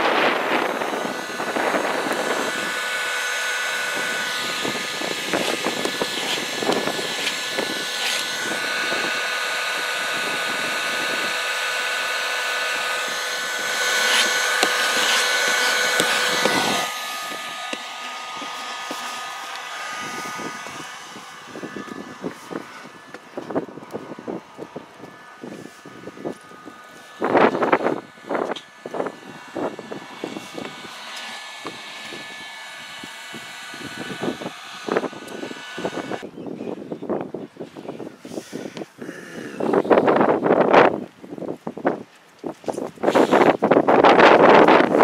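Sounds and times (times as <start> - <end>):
scraper rasping over wood: 0.0 - 36.3
heat gun whining: 0.0 - 45.0.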